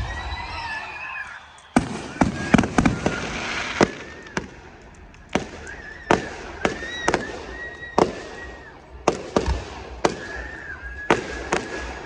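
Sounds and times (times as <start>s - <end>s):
firework bangs: 0.0s - 12.0s
fireworks hissing crackle: 0.0s - 12.0s.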